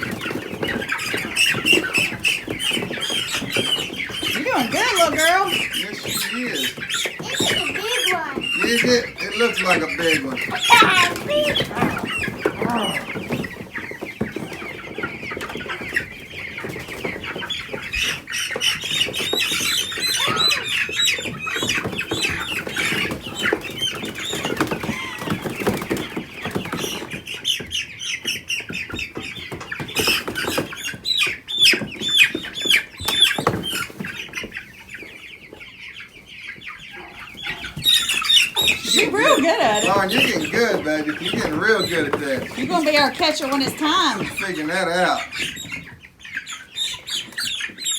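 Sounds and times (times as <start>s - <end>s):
wing flapping and scuffling: 0.0s - 35.9s, 37.4s - 47.9s
chickens peeping and squawking: 0.0s - 47.9s.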